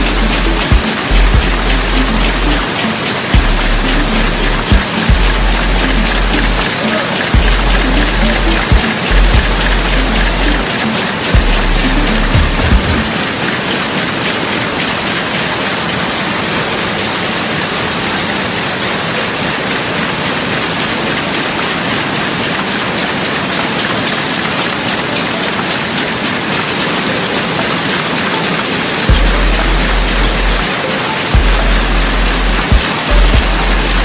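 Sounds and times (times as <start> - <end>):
loom mechanical clatter: 0.0 - 34.0.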